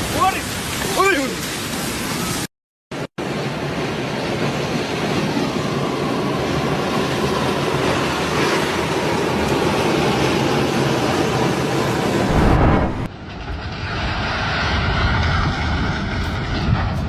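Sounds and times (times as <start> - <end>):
loud rumbling rush of noise: 1.7 - 17.0.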